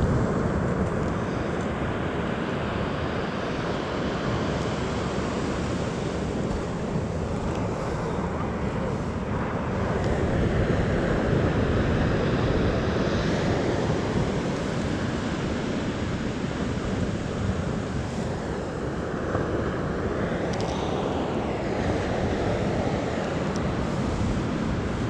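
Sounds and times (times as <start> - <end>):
surf washing onto beach: 0.0 - 25.0
wind rumbling on microphone: 0.0 - 25.0.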